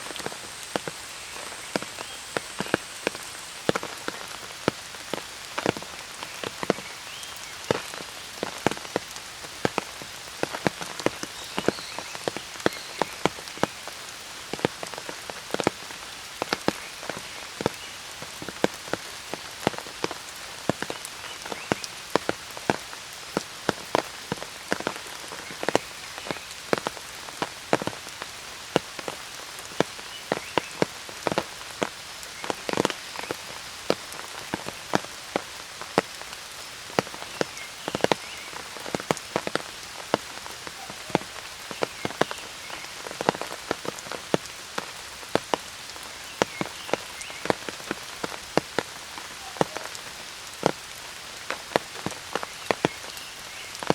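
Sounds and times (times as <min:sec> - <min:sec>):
rain falling: 0:00.0 - 0:53.9
raindrops tapping an umbrella: 0:00.0 - 0:53.9.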